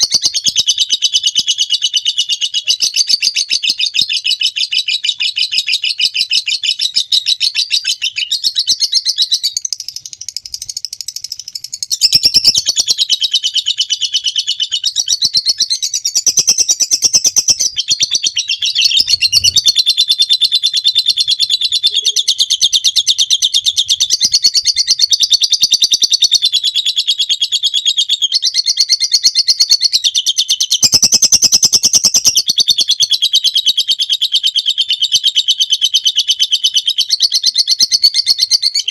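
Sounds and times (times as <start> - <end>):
lovebird chattering song: 0.0 - 38.9.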